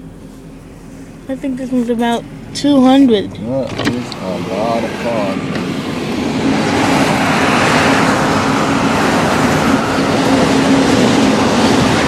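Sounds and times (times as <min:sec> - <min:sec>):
car road noise: 0:00.0 - 0:12.0
freight train rumbling past: 0:00.7 - 0:12.0.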